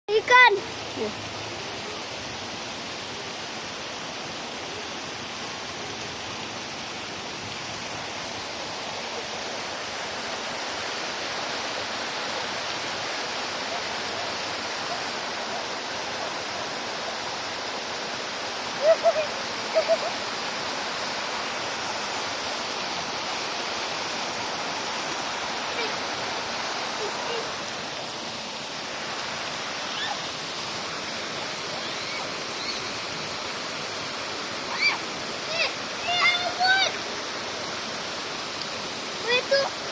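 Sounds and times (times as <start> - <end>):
running water rushing: 0.1 - 39.9.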